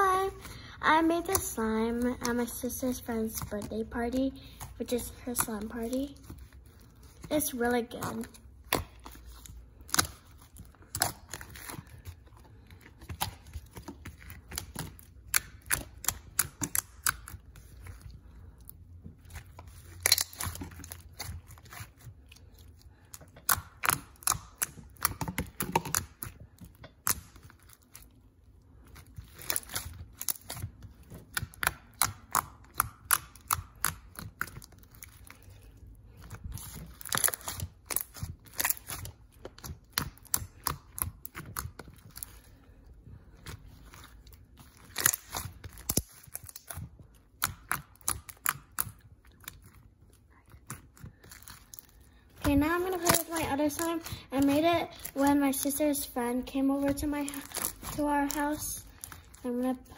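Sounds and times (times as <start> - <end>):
hands squishing sticky slime: 0.0 - 59.9.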